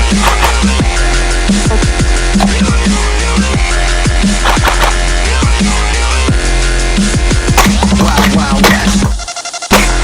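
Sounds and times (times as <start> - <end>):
instrumental rap beat with heavy bass: 0.0 - 10.0.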